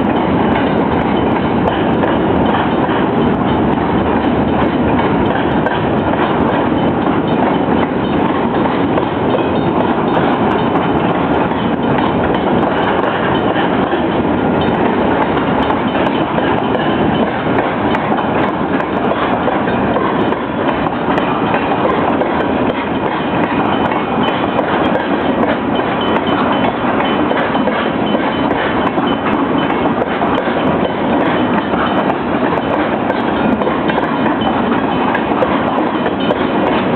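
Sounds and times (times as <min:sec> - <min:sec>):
train cars clicking and clacking: 0:00.0 - 0:36.9
train wheels rumbling on rails: 0:00.0 - 0:36.9.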